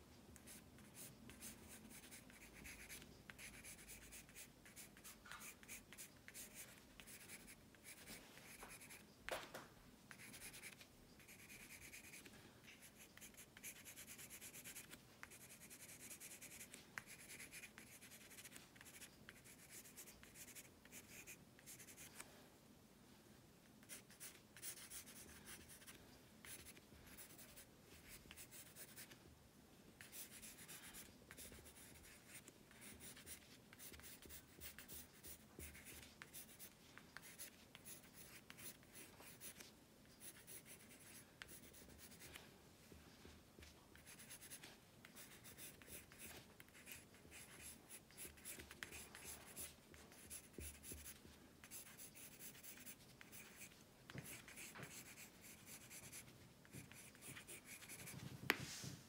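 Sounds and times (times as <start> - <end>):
pencil sketching on paper: 0.5 - 9.0, 10.1 - 22.1, 23.9 - 29.1, 30.0 - 42.3, 43.9 - 58.2.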